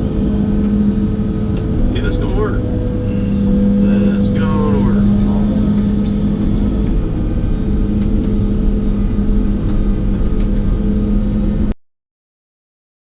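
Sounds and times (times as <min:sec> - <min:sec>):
excavator diesel engine running: 0:00.0 - 0:11.8.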